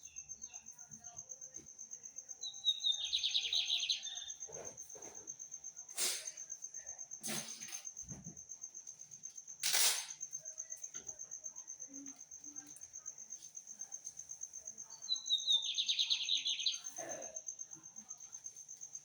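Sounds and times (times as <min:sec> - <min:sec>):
songbird singing: 0:00.0 - 0:06.8, 0:10.3 - 0:19.0
cricket trilling: 0:00.0 - 0:19.0.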